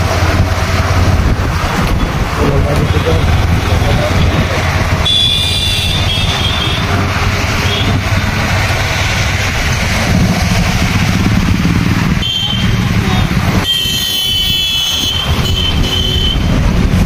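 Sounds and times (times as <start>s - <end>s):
road and wind noise: 0.0s - 17.0s
vehicle engine rumble: 0.0s - 17.0s.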